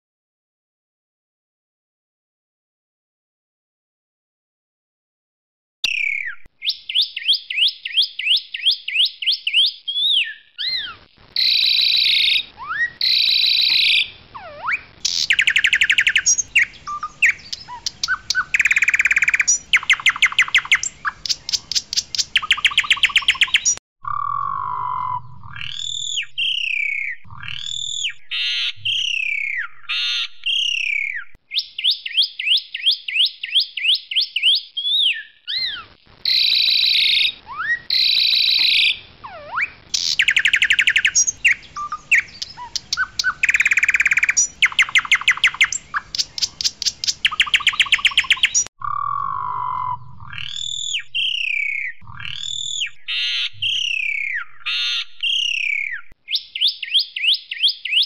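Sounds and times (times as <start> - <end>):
starling singing: 5.9 - 58.0.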